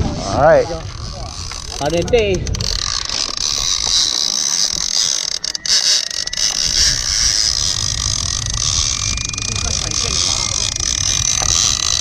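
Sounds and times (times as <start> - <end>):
wind rumbling on microphone: 0.0 - 12.0
fishing reel clicker buzzing: 0.3 - 12.0.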